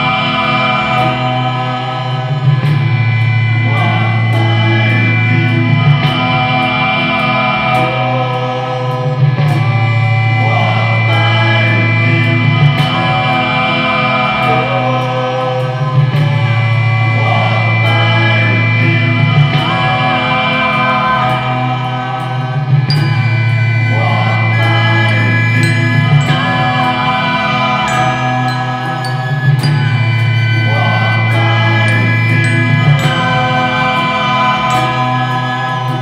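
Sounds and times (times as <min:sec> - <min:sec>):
low sustained drone: 0:00.0 - 0:36.0
person singing: 0:00.0 - 0:36.0.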